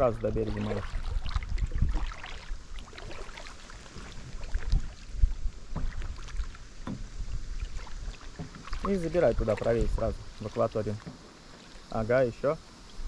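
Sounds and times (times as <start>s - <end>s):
wind on microphone: 0.0s - 10.5s
paddles splashing in water: 0.0s - 13.0s.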